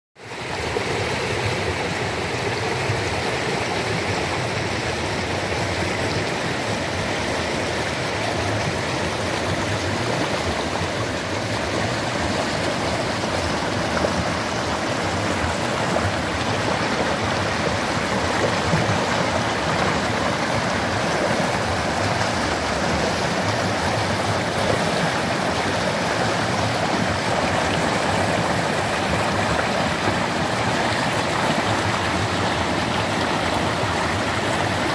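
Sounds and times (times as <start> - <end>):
creek rushing over rocks: 0.2 - 34.9.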